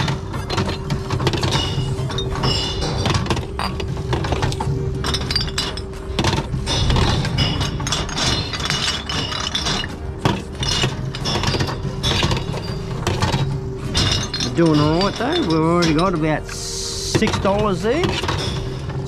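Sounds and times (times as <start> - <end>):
glass bottles clinking and breaking: 0.0 - 19.0.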